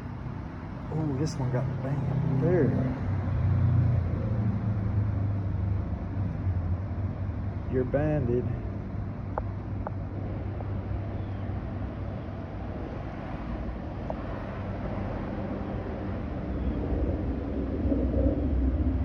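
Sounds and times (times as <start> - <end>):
faint hum: 0.0 - 19.0
steady low rumble: 0.0 - 19.0.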